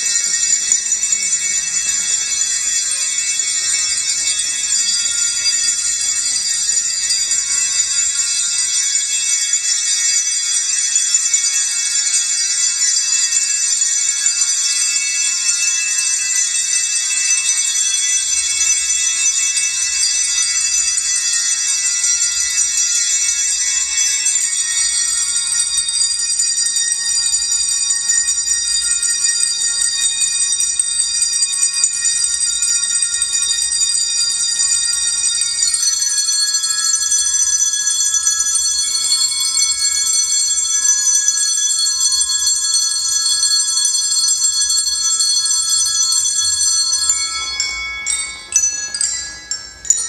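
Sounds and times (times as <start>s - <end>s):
handbells ringing: 0.0s - 50.0s.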